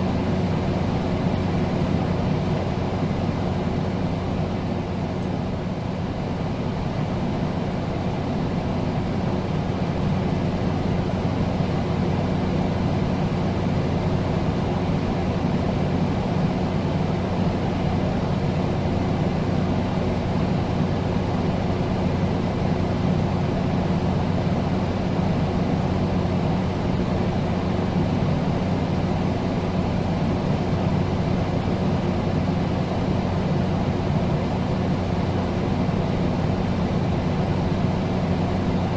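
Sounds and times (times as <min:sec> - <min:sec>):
air conditioner running: 0:00.0 - 0:38.9.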